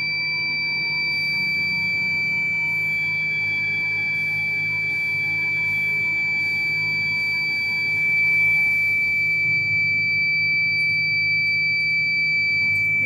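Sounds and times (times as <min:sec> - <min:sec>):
continuous high-pitched buzzer beep: 0:00.0 - 0:13.0.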